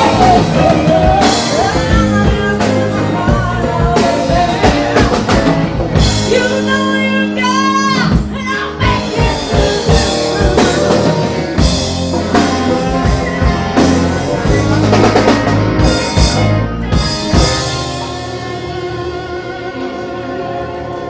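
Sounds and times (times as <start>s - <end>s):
guitar and bass chords: 0.0s - 21.0s.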